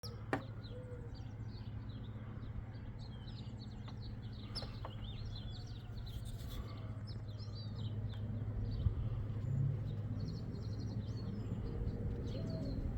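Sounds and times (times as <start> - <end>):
small birds chirping: 0.0 - 12.9
steady low hum: 0.0 - 12.9.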